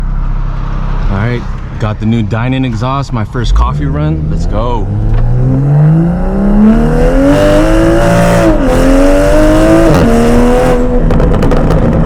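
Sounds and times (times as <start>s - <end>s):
car engine accelerating with upshifts: 0.0s - 12.0s.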